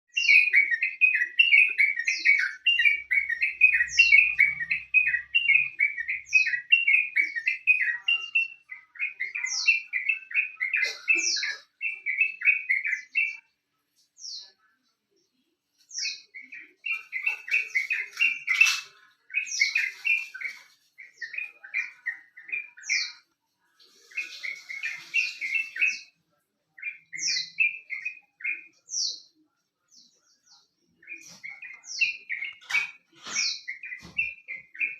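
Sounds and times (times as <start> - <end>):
bulbul singing: 0.1 - 13.6, 15.4 - 34.9.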